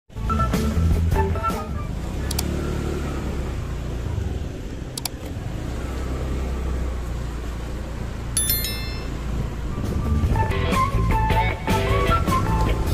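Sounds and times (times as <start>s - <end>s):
vehicle engine and road noise: 0.1s - 12.9s.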